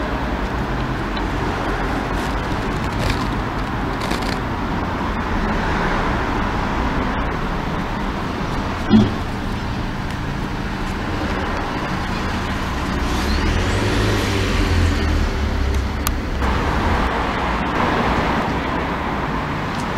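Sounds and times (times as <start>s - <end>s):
passing vehicle rumble: 0.0s - 19.9s
road traffic hiss: 0.0s - 19.9s.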